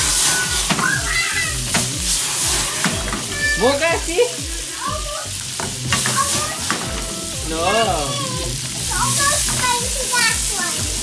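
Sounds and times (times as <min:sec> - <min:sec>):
onions sizzling in frying pan: 0:00.0 - 0:11.0.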